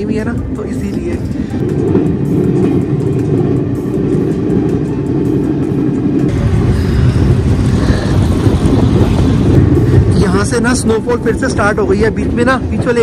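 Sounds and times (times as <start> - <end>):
rushing air: 0.0 - 13.0
train rumbling: 0.0 - 13.0.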